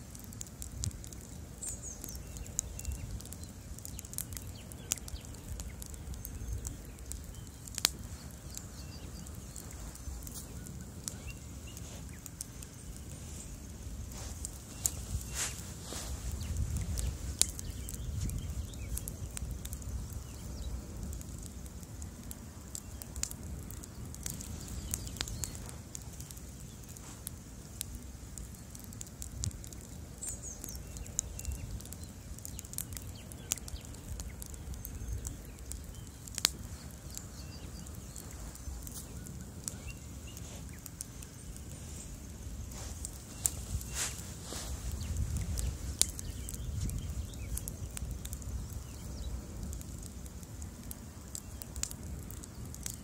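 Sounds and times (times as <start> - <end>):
bonfire flames rumbling: 0.0 - 53.0
fire crackling and snapping: 0.0 - 53.0.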